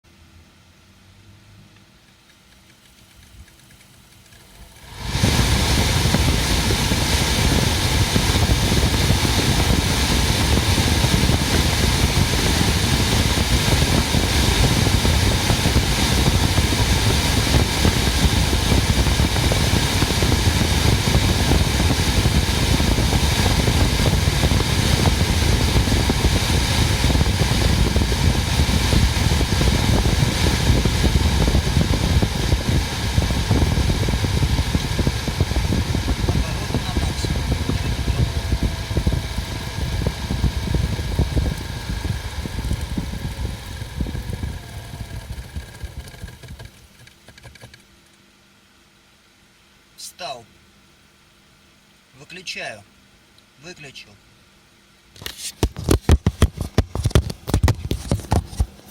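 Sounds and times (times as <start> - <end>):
car climate fan rushing air: 0.1 - 58.9.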